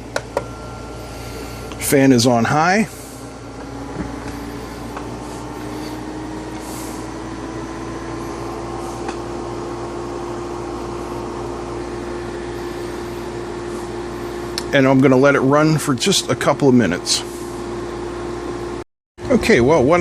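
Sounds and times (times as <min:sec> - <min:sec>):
small fan humming: 0:00.0 - 0:18.8
air conditioner rushing: 0:00.0 - 0:20.0.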